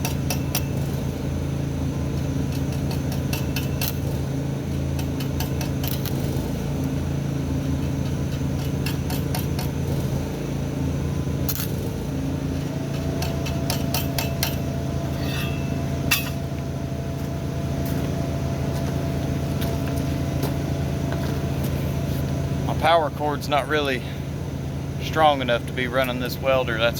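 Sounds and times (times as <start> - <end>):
stick welder humming: 0.0 - 26.9.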